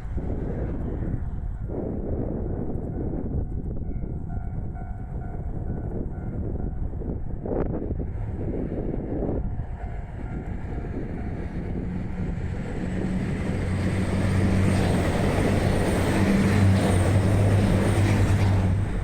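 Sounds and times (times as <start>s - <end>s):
diesel train engine drone: 0.0s - 19.0s
train rumbling: 0.0s - 19.0s.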